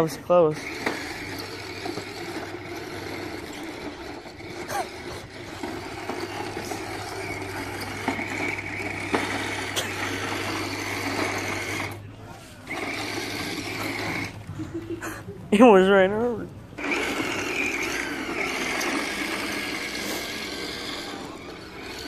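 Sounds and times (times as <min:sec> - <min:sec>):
toy tank motors whirring: 0:00.0 - 0:15.9, 0:16.7 - 0:22.0.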